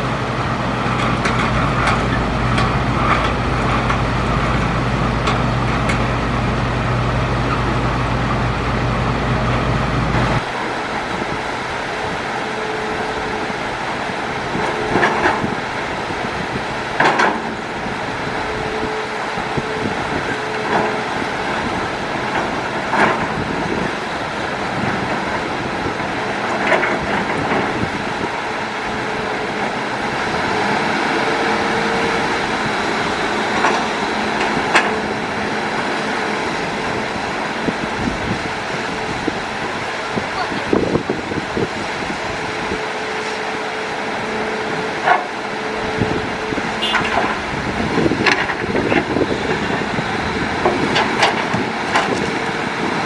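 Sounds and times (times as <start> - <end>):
excavator diesel engine rumbling: 0.0 - 53.0.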